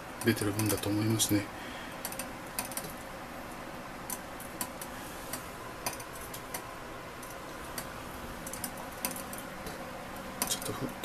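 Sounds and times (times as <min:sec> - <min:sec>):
steady hiss of heating water: 0:00.0 - 0:11.0.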